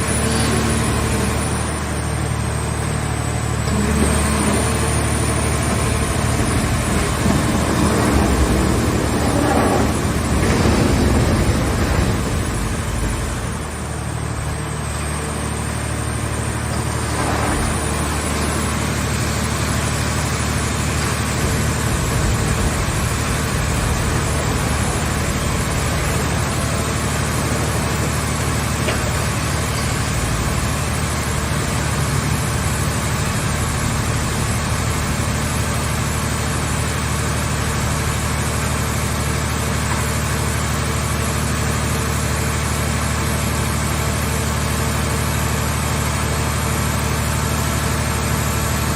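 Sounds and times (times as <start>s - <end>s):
car baler engine and hydraulics: 0.0s - 48.9s.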